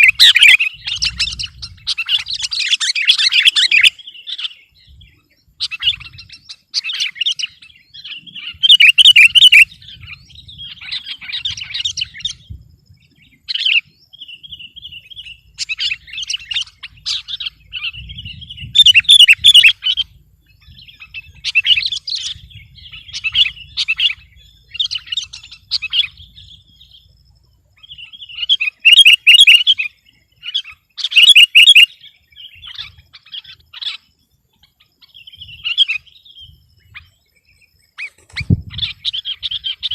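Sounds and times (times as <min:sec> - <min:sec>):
bird chattering chirps: 0:00.0 - 0:27.1, 0:27.8 - 0:37.1.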